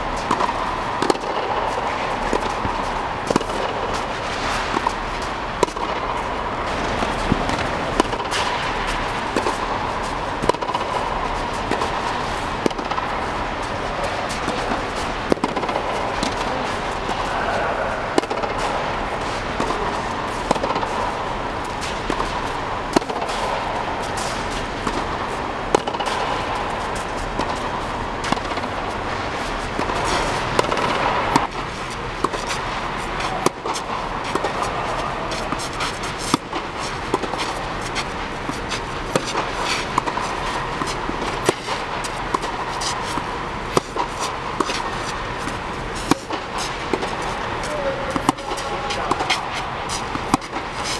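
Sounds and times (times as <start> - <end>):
steady background noise: 0.0 - 50.9
tennis balls struck by rackets: 0.2 - 50.9.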